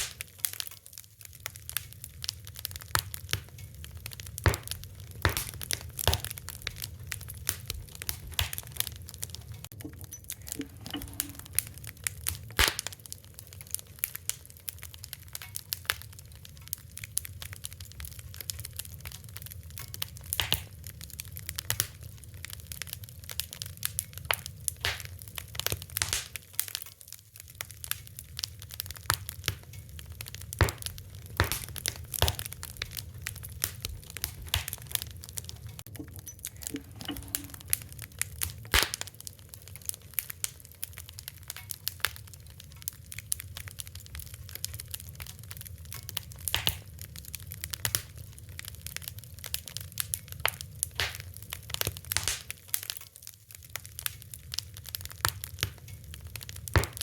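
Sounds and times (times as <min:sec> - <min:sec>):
fire crackling: 0:00.0 - 0:57.0.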